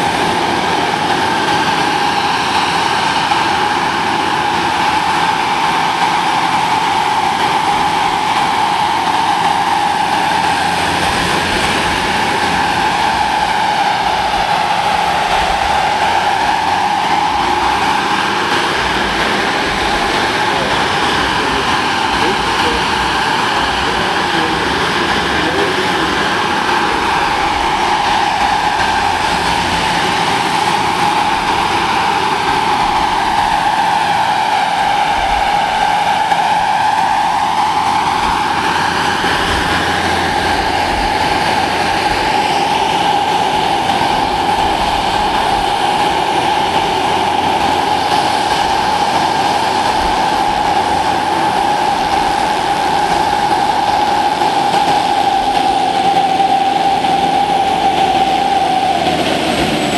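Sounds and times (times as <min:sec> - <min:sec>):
model helicopter turbine whine: 0:00.0 - 0:59.9.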